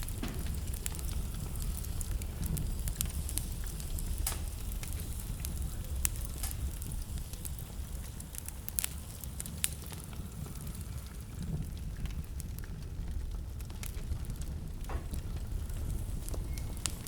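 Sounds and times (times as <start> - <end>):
low rumble of fire: 0.0 - 17.0
wood fire crackling and popping: 0.0 - 17.0.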